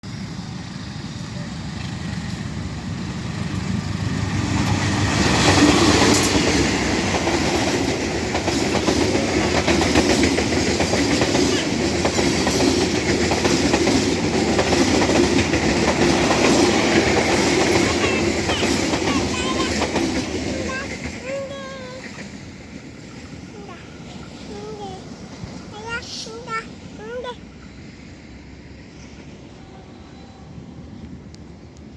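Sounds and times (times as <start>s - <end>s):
train wheels clattering on rails: 0.1s - 27.3s.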